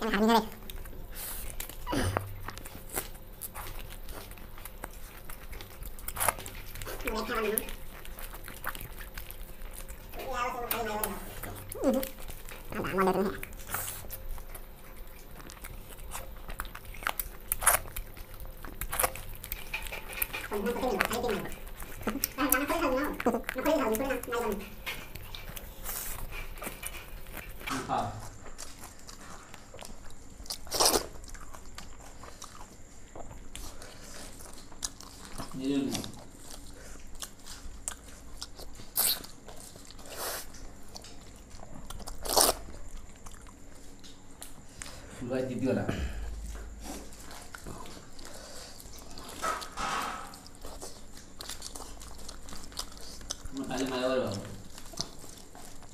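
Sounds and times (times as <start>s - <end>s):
people chewing and crunching: 0.0s - 55.9s.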